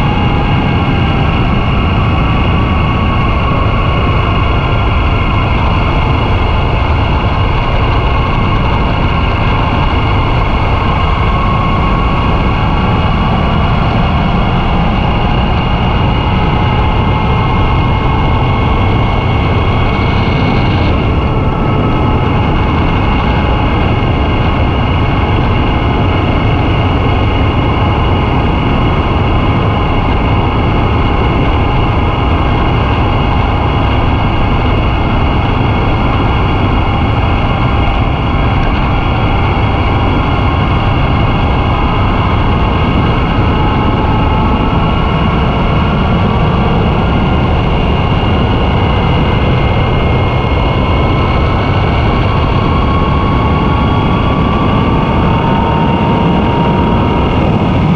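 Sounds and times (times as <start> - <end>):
motorcycle engine whine: 0.0 - 57.9
wind buffeting microphone: 0.0 - 57.9.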